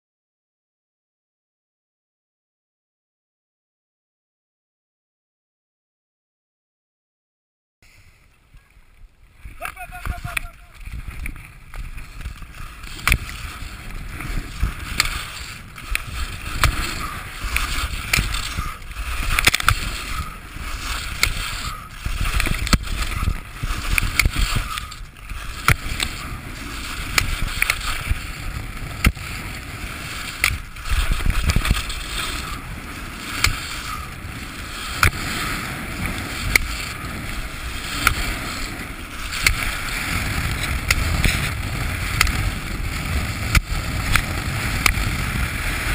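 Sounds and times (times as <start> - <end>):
skis carving on hard snow: 7.9 - 45.9.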